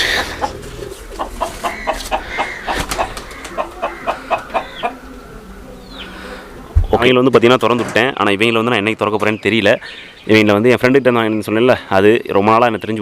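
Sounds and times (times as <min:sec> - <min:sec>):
birds clucking: 0:00.0 - 0:13.0.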